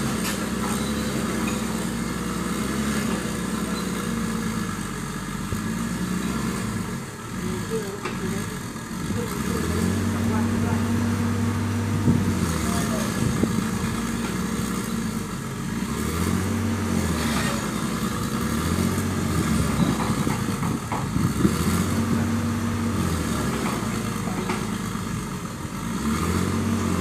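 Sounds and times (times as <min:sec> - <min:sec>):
excavator diesel engine straining: 0:00.0 - 0:27.0.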